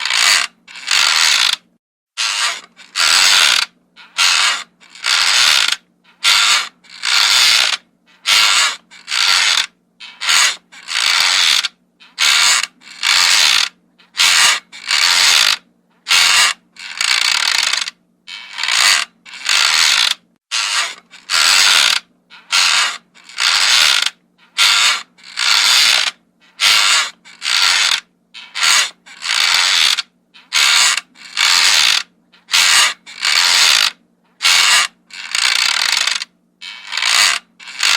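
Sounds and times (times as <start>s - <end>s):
wooden rocking chair creaking: 0.0s - 37.9s.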